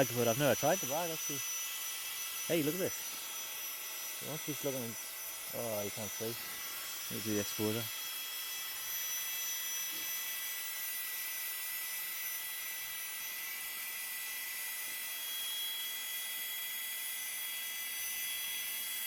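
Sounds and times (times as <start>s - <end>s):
electric air pump whining: 0.0s - 19.0s.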